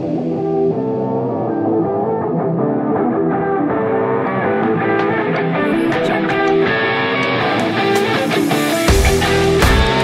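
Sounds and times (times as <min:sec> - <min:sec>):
instrumental guitar music: 0:00.0 - 0:10.0.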